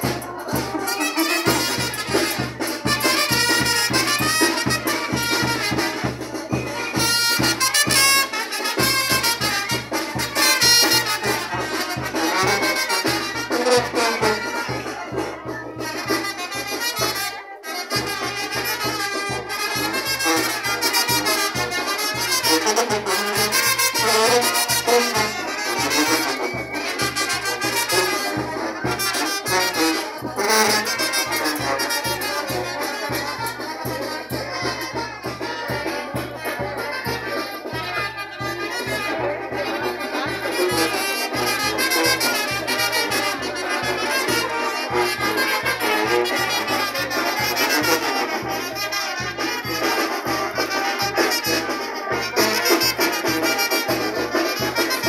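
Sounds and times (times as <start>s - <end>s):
brass band playing: 0.0s - 55.0s
steady drum beat: 0.0s - 55.0s.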